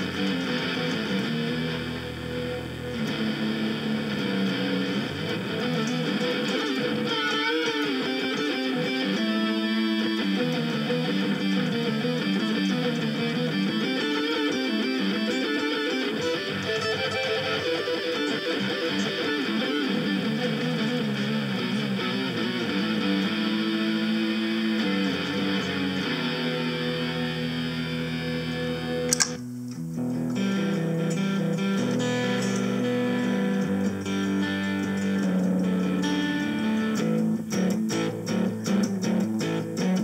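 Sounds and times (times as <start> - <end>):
electric guitar with effects: 0.0 - 40.0.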